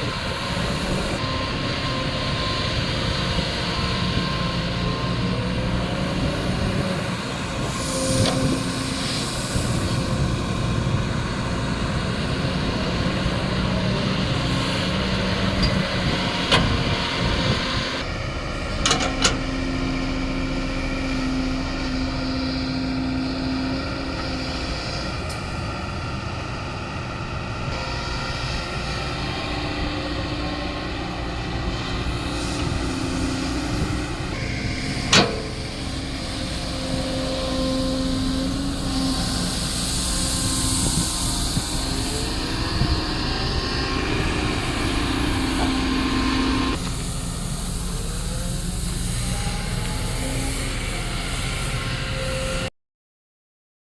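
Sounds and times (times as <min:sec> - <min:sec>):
excavator diesel engine running: 0:00.0 - 0:52.7.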